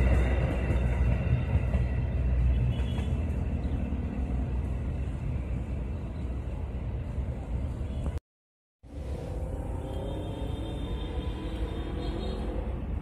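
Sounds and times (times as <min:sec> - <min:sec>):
train rumbling on rails: 0:00.0 - 0:08.2, 0:08.8 - 0:13.0.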